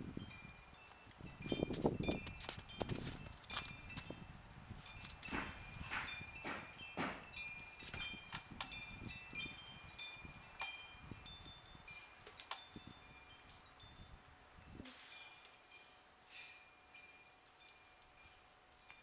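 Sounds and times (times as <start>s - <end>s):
high metallic tinkling: 0.2s - 19.0s.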